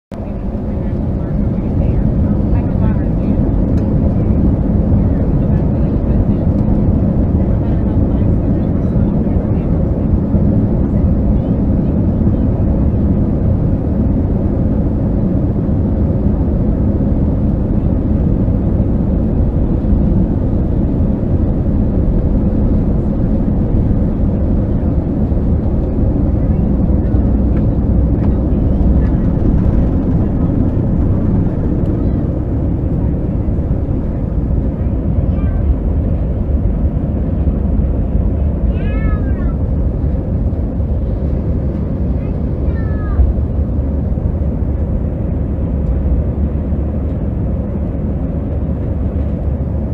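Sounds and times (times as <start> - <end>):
jet engines rumbling: 0.1 - 49.9.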